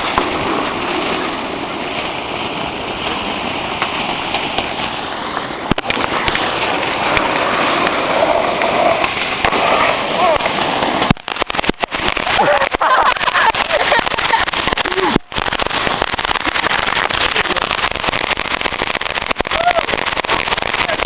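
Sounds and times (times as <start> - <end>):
firework crackles and pops: 0.0 - 21.0
firework hissing: 0.0 - 21.0.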